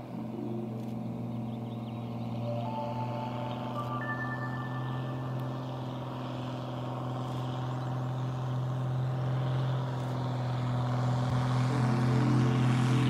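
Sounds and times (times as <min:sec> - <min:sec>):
propeller aircraft droning: 0:00.0 - 0:13.0.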